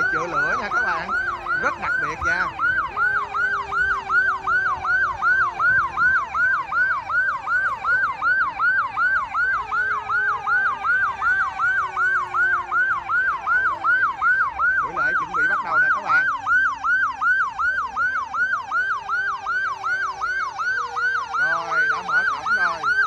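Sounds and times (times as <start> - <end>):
siren yelping: 0.0 - 23.0.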